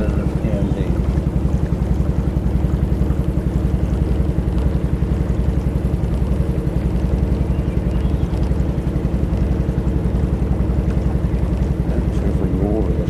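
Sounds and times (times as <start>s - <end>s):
kayak motor pulsing drone: 0.0s - 13.0s.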